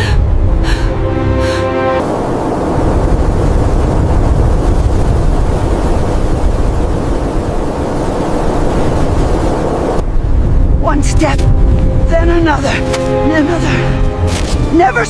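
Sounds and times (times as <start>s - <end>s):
blizzard wind blowing hard: 0.0s - 15.0s.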